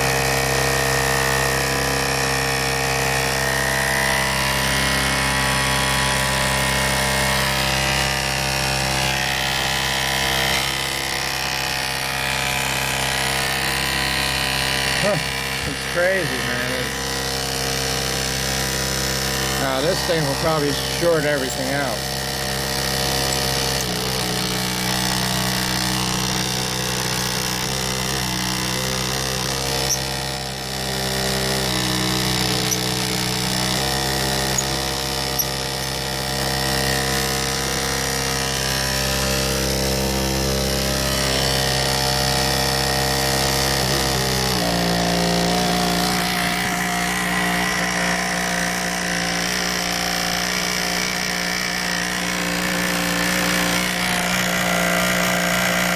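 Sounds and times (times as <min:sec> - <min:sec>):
electric pump and fan humming: 0:00.0 - 0:55.9.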